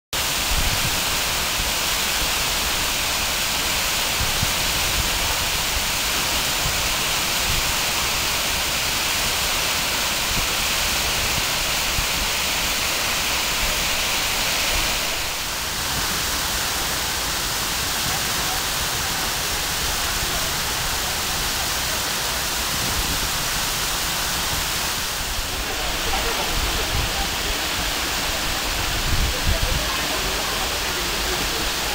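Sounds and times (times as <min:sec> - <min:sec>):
waterfall rushing: 0:00.2 - 0:31.9.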